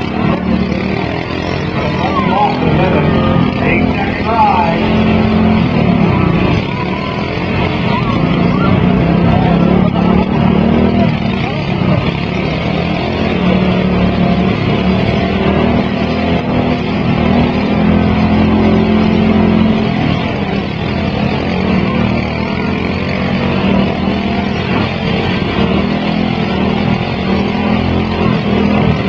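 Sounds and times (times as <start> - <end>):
small engines droning: 0.0 - 29.0.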